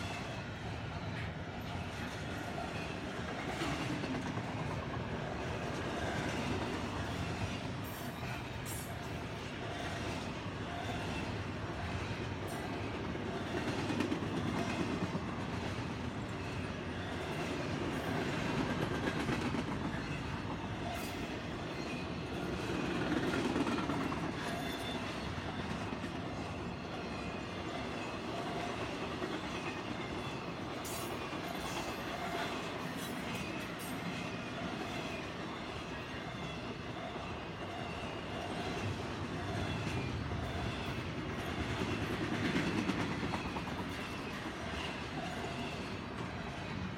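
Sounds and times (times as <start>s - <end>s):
freight train wheels rumbling: 0.0s - 46.9s.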